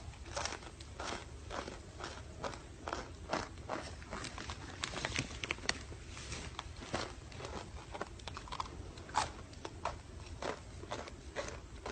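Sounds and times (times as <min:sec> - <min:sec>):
deer crunching chips: 0:00.2 - 0:11.9.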